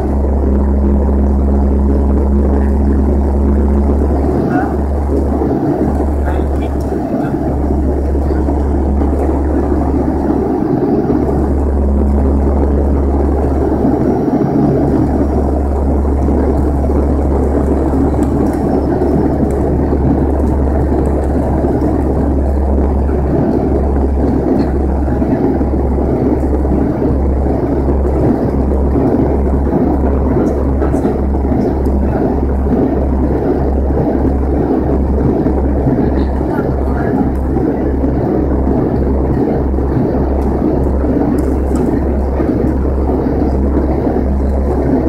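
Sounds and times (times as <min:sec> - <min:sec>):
airflow rush: 0:00.0 - 0:45.0
airliner engine and propeller drone: 0:00.0 - 0:45.0.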